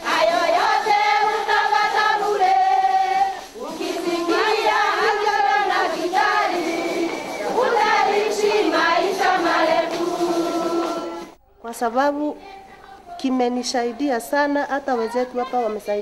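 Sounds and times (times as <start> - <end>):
women singing as a choir: 0.0 - 11.4, 12.2 - 16.0.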